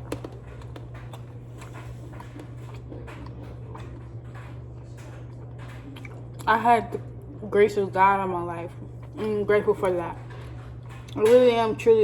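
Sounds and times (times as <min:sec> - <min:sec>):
person eating ice cream: 0:00.0 - 0:07.4, 0:08.7 - 0:11.2
steady low hum: 0:00.0 - 0:12.0.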